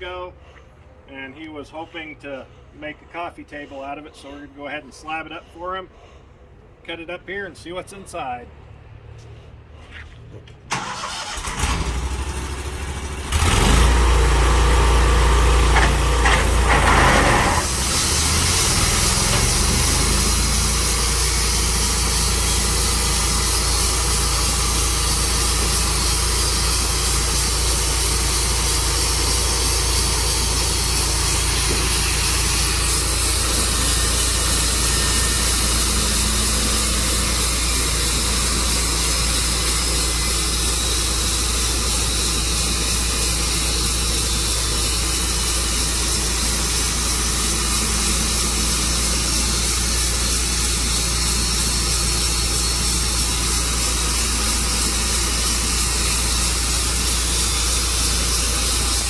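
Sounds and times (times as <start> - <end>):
sawmill engine revving: 10.7 - 59.0.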